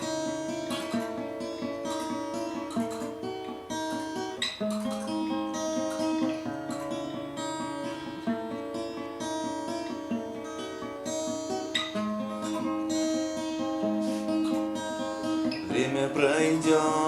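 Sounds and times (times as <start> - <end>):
acoustic guitar picking chords: 0.0 - 17.0.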